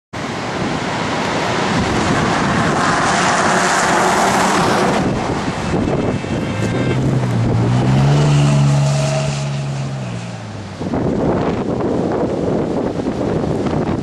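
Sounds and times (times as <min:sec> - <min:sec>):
strong wind on microphone: 0:00.5 - 0:14.0.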